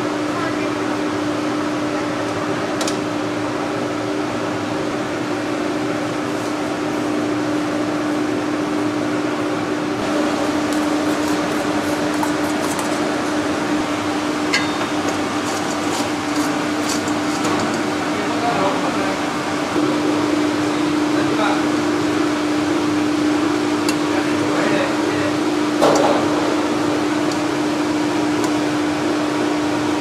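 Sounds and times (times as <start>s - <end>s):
kitchen ventilation humming: 0.0s - 30.0s.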